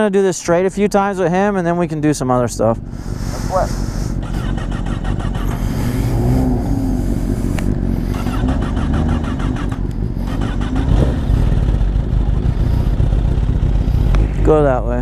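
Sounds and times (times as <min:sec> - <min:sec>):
motorcycle engine revving: 0:02.5 - 0:15.0.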